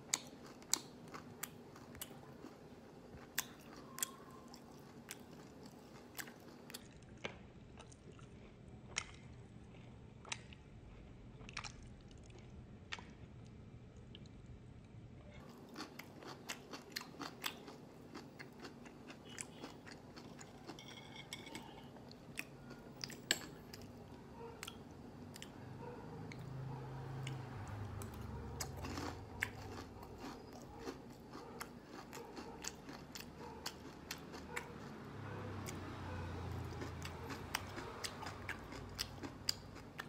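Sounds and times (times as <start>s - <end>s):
person chewing crunchy food: 0.0s - 13.2s, 15.4s - 25.6s, 26.3s - 35.0s, 35.6s - 40.0s.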